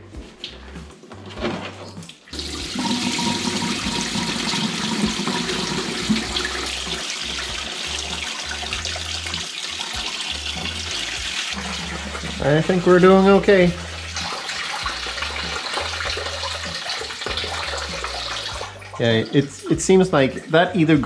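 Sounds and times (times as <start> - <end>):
coolant pouring into a bucket: 2.3 - 19.7.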